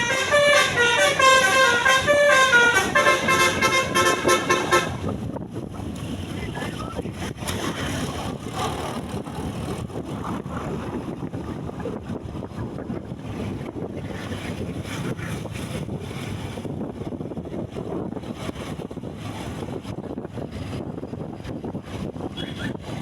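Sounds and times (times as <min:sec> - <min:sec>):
steady low rumble: 0:00.0 - 0:23.0
wind buffeting microphone: 0:00.0 - 0:23.0.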